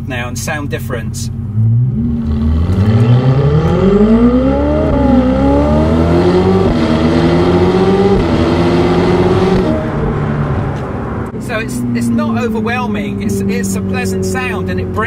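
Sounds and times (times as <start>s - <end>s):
sports car engine accelerating hard: 1.2s - 15.0s.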